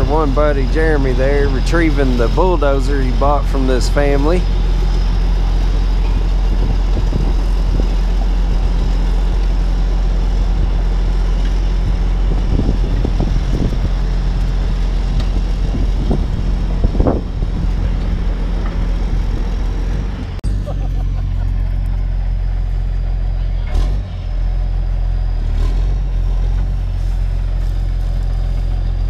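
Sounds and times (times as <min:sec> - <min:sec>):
engine knocks: 0:00.0 - 0:24.6
diesel engine running: 0:00.0 - 0:29.0.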